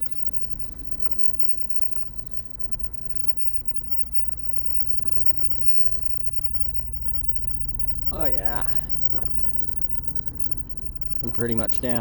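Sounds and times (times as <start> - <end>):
rumble of riding on rocky trail: 0.0 - 12.0.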